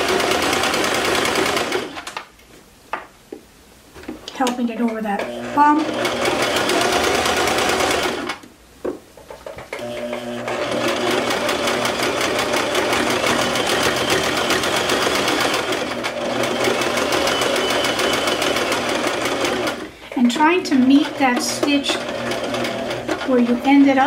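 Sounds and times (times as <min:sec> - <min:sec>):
sewing machine stitching: 0:00.0 - 0:02.1, 0:05.2 - 0:08.4, 0:09.8 - 0:24.0.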